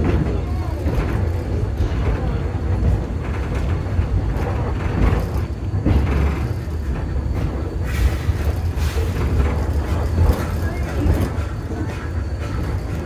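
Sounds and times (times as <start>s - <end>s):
train car rumbling: 0.0s - 13.0s.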